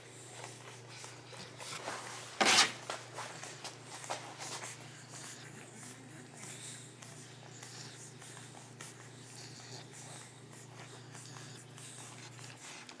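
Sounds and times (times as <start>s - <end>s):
puppies snuffling: 0.0s - 13.0s
puppies suckling: 0.0s - 13.0s
steady low hum: 0.0s - 13.0s.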